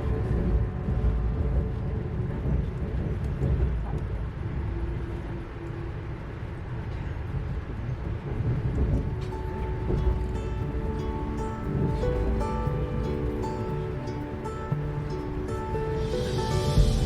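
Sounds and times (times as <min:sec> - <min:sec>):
train rumbling along track: 0:00.0 - 0:17.0.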